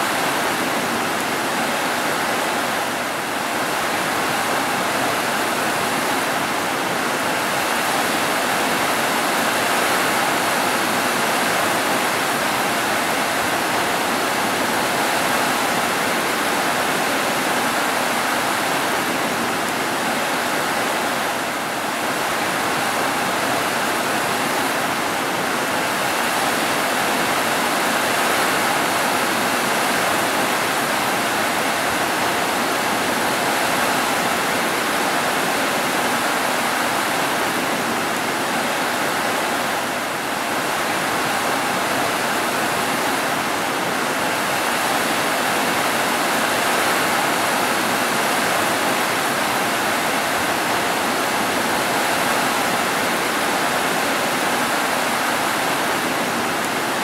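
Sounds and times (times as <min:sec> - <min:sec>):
heavy rain on roofs: 0:00.0 - 0:57.0.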